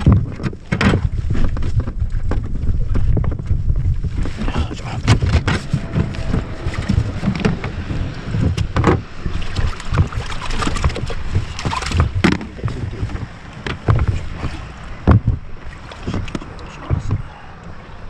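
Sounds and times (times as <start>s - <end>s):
water slapping against hull: 0.0s - 18.0s
wind on microphone: 0.0s - 18.0s.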